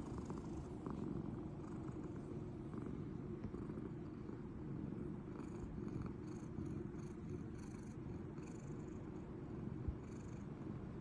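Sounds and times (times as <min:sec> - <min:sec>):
cat purring rumble: 0:00.0 - 0:11.0.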